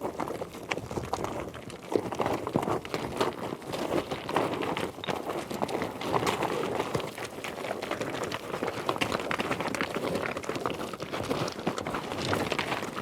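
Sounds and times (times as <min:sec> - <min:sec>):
galloping horse hooves: 0:00.0 - 0:13.0.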